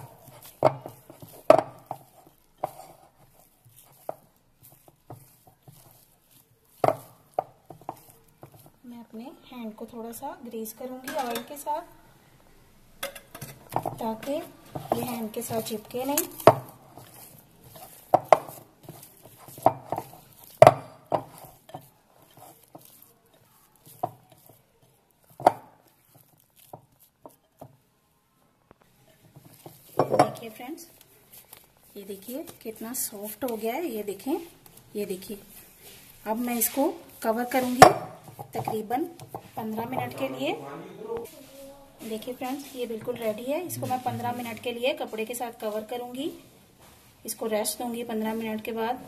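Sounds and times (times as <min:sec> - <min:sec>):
dough kneaded in glass bowl: 0:00.0 - 0:12.0, 0:13.0 - 0:40.5, 0:42.0 - 0:49.0.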